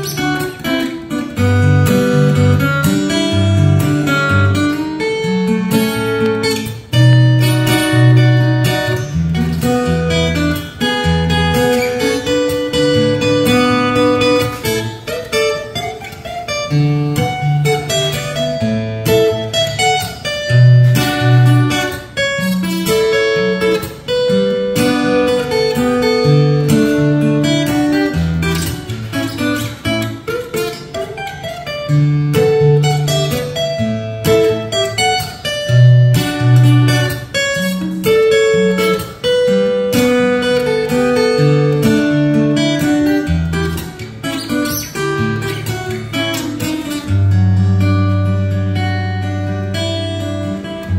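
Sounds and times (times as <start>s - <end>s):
fingerstyle acoustic guitar: 0.0s - 50.9s.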